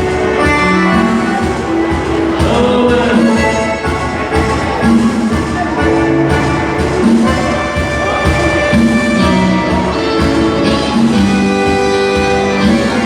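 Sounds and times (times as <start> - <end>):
live band dance music: 0.0 - 13.0.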